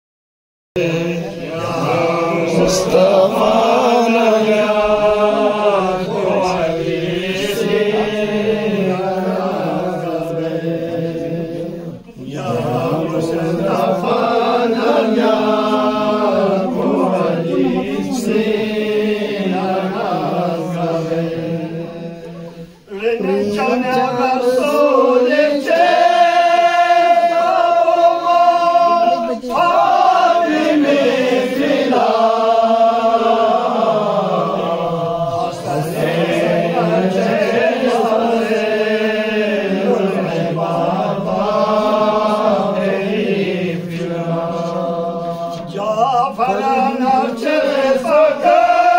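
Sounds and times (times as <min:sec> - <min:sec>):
men chanting: 0:00.8 - 0:48.9.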